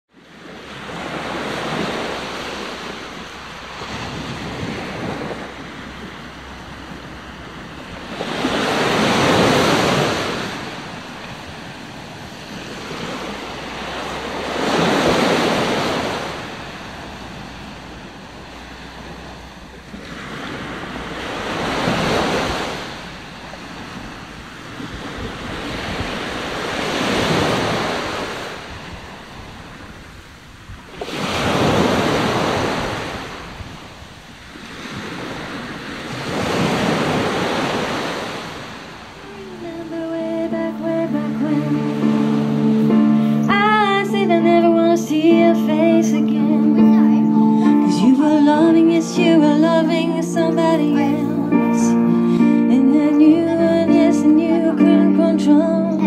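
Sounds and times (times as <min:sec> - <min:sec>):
surf breaking on a beach: 0:00.1 - 0:56.0.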